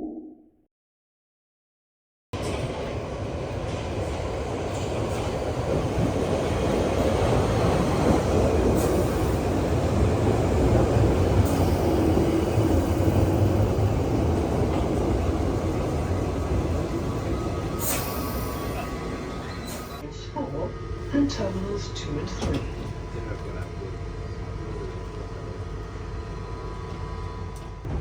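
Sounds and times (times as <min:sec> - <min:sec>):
train rumbling on rails: 0:02.4 - 0:28.0.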